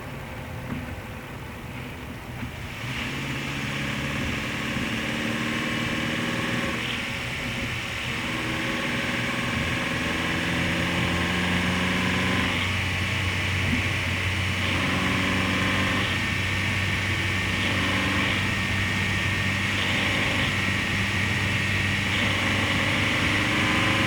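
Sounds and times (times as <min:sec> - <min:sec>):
car engine chattering: 0:00.4 - 0:24.0.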